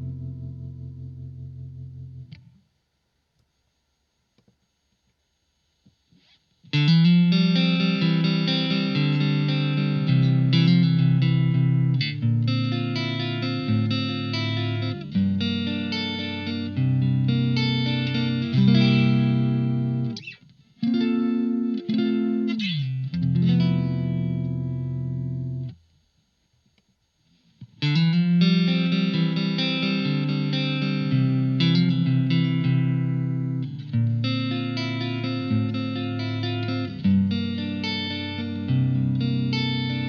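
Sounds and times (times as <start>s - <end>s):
electric guitar ringing chords: 0.0s - 2.5s, 6.7s - 25.8s, 27.8s - 40.0s.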